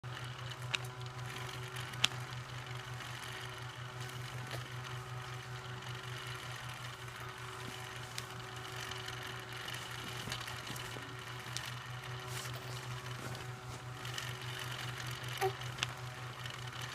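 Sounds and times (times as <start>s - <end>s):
small motor humming: 0.0s - 16.9s.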